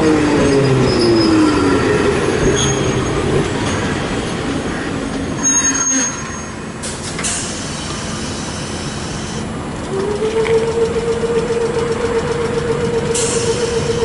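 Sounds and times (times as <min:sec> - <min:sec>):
streetcar motor whine: 0:00.0 - 0:14.0
streetcar rolling rumble: 0:00.0 - 0:14.0.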